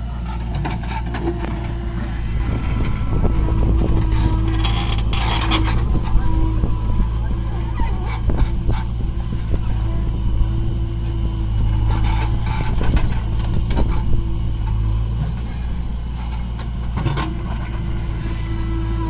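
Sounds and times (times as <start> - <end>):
diesel engine rumble: 0.0 - 19.0.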